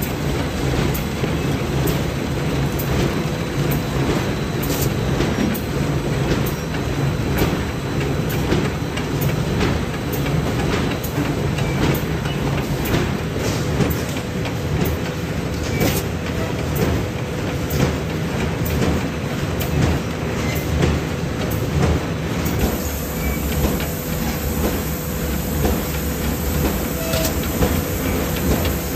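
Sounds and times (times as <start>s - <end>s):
machine clacks: 0.0s - 28.9s
machine rumble of belts and rollers: 0.0s - 28.9s.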